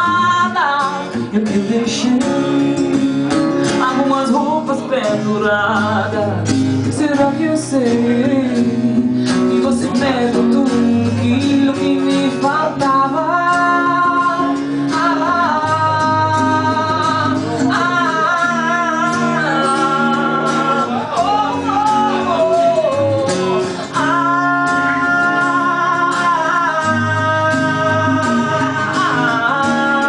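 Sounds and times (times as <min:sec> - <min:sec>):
strummed acoustic guitar: 0:00.0 - 0:30.0
woman singing: 0:00.0 - 0:30.0.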